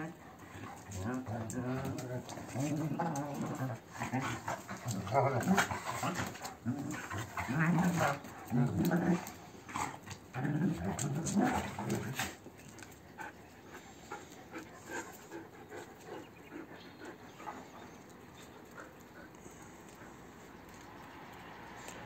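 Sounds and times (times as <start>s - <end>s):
dogs growling: 0.0s - 21.2s.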